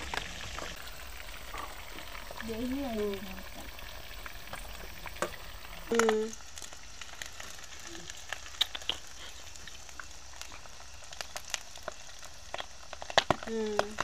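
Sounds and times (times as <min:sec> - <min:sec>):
chicken deep-frying in oil: 0:00.0 - 0:14.0
oil popping and spattering: 0:00.0 - 0:14.0.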